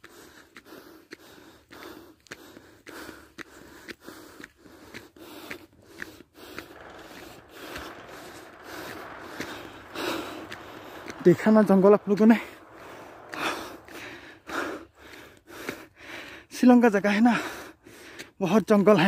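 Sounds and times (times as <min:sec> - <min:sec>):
person breathing hard: 0:00.0 - 0:11.2, 0:12.4 - 0:16.5, 0:17.3 - 0:18.4
footsteps on concrete: 0:00.0 - 0:16.4.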